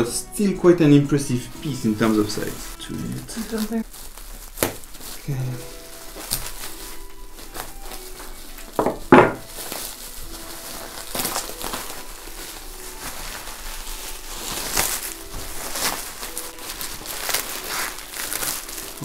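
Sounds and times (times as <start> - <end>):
bubble wrap crinkling: 1.2 - 19.0.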